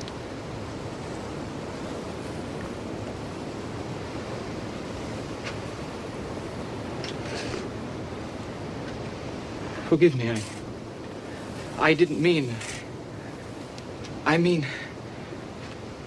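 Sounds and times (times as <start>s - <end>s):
ocean surf: 0.0s - 16.0s.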